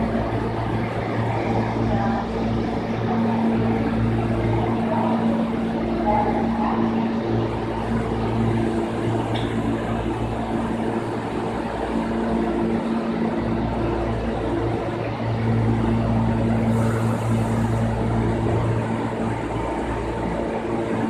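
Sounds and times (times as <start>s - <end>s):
train electrical hum: 0.0s - 21.0s.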